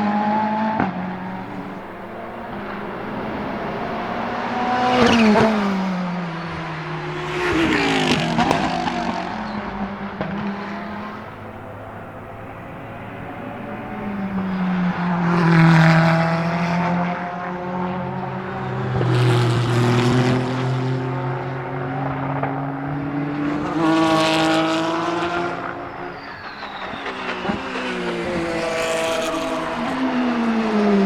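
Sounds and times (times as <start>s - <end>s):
race car engine at high revs: 0.0s - 31.0s.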